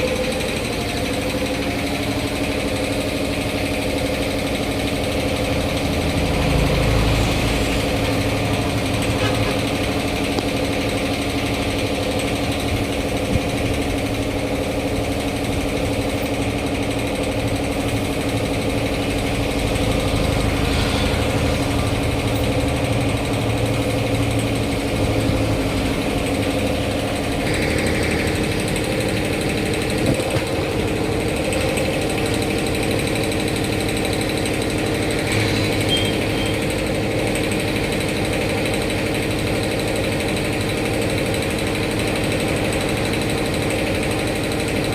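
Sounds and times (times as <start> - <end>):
machine droning hum: 0.0 - 37.6.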